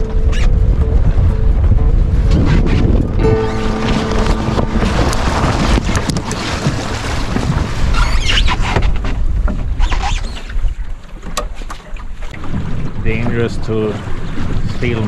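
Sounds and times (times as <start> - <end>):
wind buffeting microphone: 0.0 - 11.0, 12.2 - 15.0
water splashing: 0.0 - 15.0.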